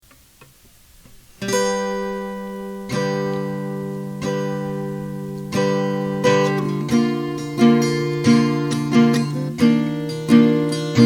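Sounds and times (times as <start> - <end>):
acoustic guitar chords strummed: 0.0 - 11.0.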